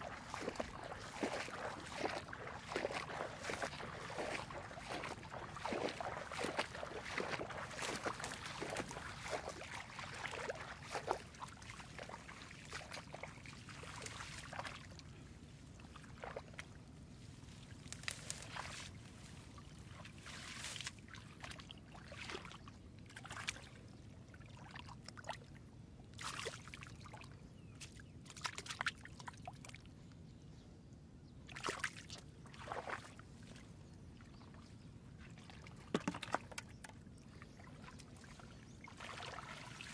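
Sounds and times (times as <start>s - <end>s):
water splashing and sloshing: 0.0s - 30.0s, 31.5s - 39.9s.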